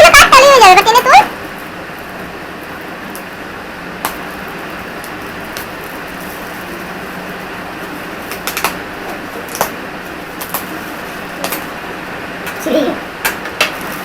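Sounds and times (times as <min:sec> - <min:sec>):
steady fan-like hiss: 0:00.0 - 0:14.0.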